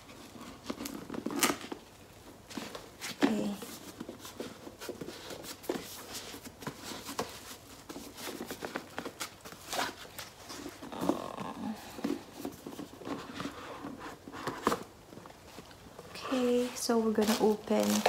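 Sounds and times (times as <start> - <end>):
ribbon rustling: 0.0 - 18.0
cardboard box handling: 2.4 - 18.0.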